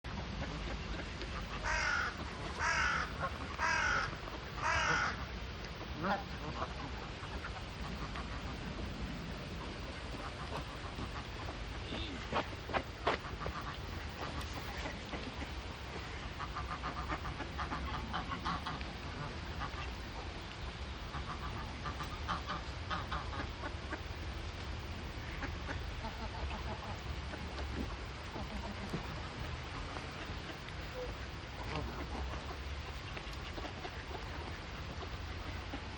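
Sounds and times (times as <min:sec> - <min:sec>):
waterfowl quacking calls: 0:00.3 - 0:08.7, 0:09.6 - 0:12.4, 0:13.1 - 0:20.4, 0:21.0 - 0:24.2, 0:25.1 - 0:35.9.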